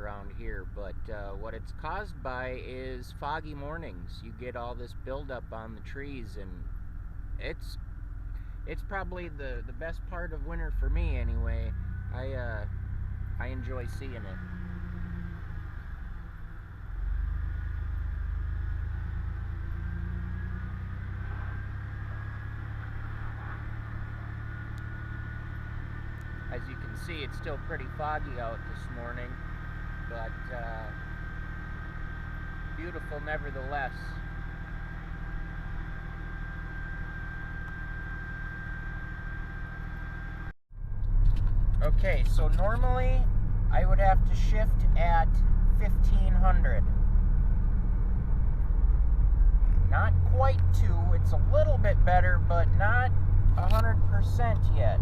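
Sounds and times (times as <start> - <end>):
pickup engine running: 0.0 - 55.0
road noise: 0.0 - 55.0
thin high whine: 8.4 - 55.0.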